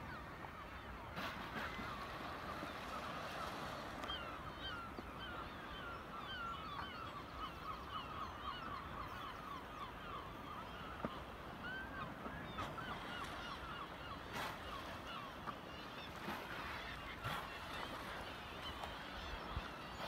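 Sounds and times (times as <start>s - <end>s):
seabirds calling: 0.0s - 20.0s.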